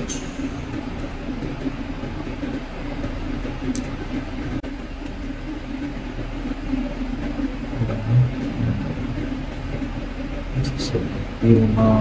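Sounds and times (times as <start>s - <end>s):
faint low hum: 0.0s - 12.0s
low background rumble: 0.0s - 12.0s.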